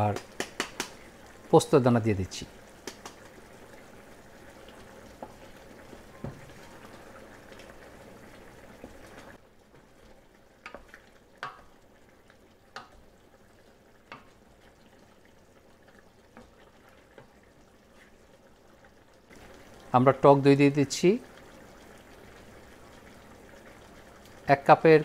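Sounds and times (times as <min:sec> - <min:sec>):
broth bubbling in pot: 0:00.0 - 0:25.0.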